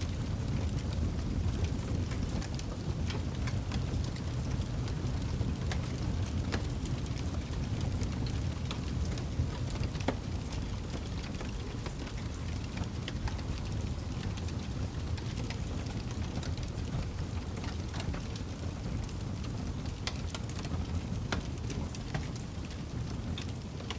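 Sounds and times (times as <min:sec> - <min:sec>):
low rumble of flame: 0:00.0 - 0:23.9
wood crackling and popping: 0:00.1 - 0:23.9.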